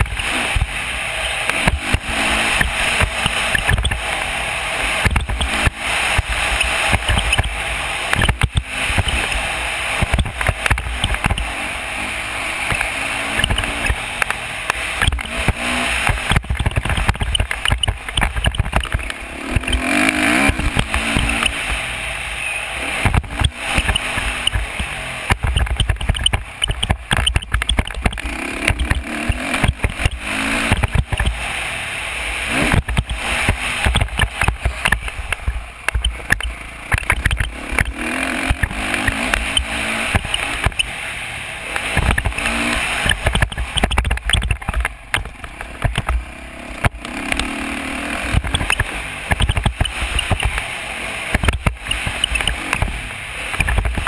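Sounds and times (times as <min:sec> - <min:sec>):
dirt bike engine running hard: 0:00.0 - 0:54.0.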